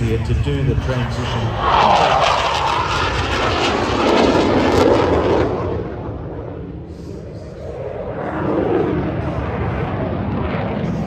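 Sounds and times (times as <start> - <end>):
jet low rumble: 0.0 - 11.0.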